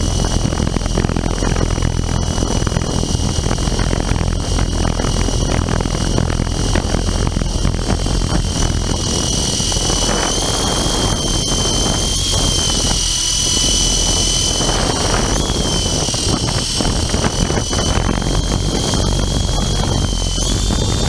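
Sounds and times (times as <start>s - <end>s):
helicopter rotor whine: 0.0s - 21.0s
low rumbling noise: 0.0s - 21.0s.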